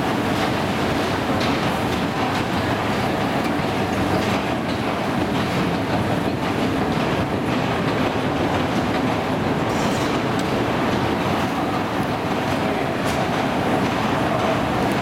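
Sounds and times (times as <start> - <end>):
escalator steps clattering: 0.0 - 15.0.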